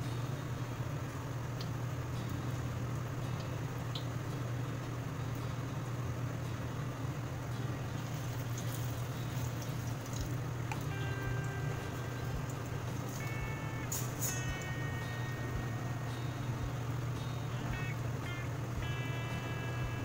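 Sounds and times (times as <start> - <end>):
low hum: 0.0 - 20.0
fritters sizzling in hot oil: 0.2 - 20.0.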